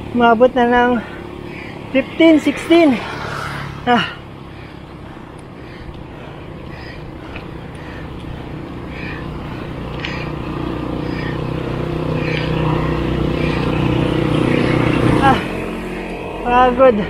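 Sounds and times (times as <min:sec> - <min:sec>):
vehicle engine approaching: 0:00.0 - 0:17.0.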